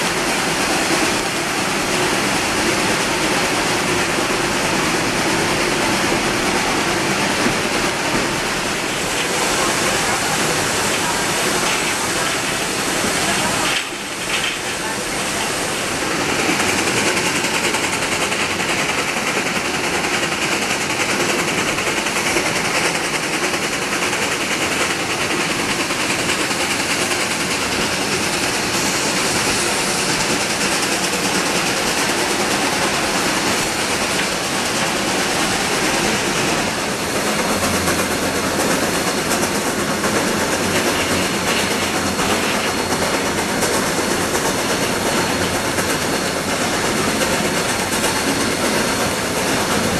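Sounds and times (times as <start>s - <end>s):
steam locomotive exhaust beats: 0.0s - 49.9s
train wheels clattering: 0.0s - 49.9s.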